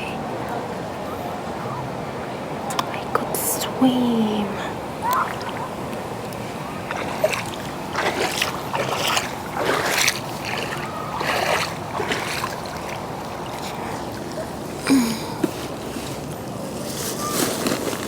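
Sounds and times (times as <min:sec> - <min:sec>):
moving water: 0:00.0 - 0:18.0
water splashing and sloshing: 0:00.0 - 0:18.0.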